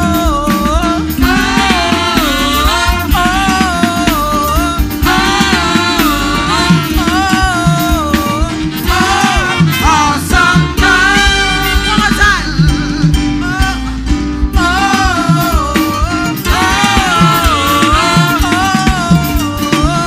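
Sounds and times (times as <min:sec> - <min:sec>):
band with bass and drums: 0:00.0 - 0:20.0
person singing gospel: 0:00.0 - 0:20.0.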